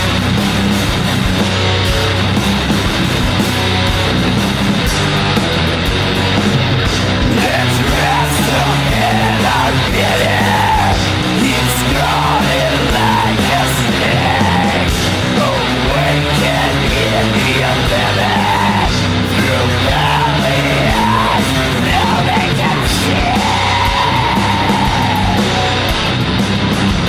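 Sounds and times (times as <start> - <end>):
heavy metal song with vocals: 0.0 - 27.0.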